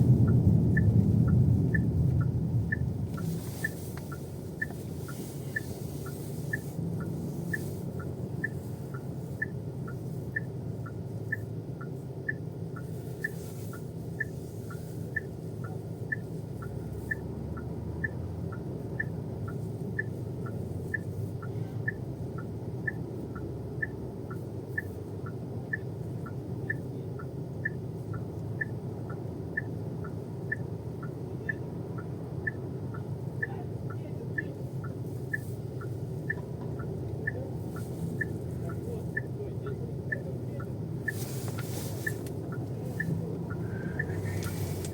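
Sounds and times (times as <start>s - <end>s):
low hum of engine and road: 0.0s - 44.9s
turn signal ticking: 0.0s - 44.9s.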